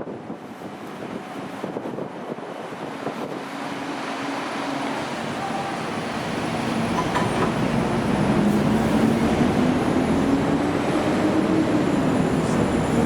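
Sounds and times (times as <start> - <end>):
tram rolling past: 0.0 - 13.0.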